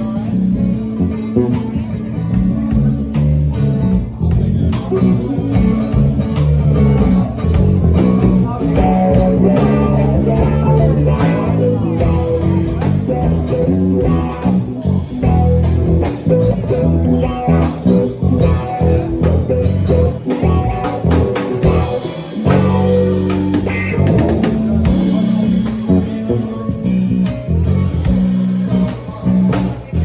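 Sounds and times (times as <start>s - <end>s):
bass guitar: 0.0s - 30.0s
drum kit: 0.0s - 30.0s
guitar: 0.0s - 30.0s.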